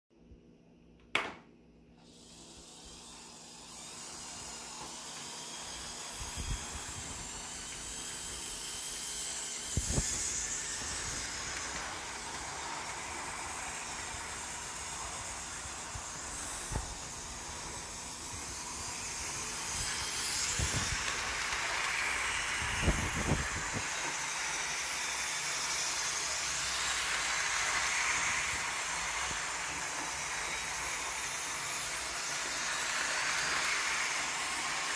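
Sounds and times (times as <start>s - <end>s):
toy train motor whirring: 2.0s - 34.9s.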